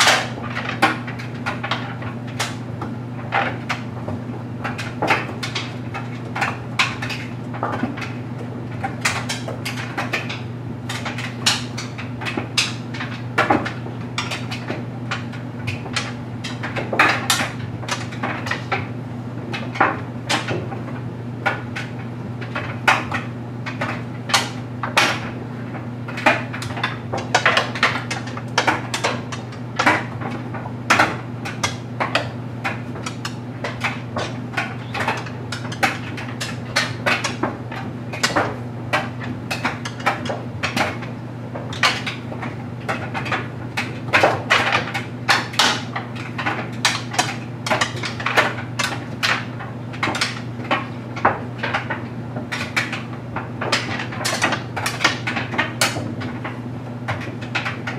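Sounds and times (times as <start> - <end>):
dryer motor hum: 0.0 - 57.9.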